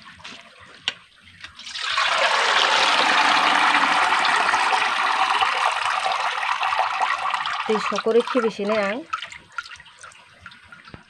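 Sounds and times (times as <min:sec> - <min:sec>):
water draining into bowl: 0:01.5 - 0:11.0.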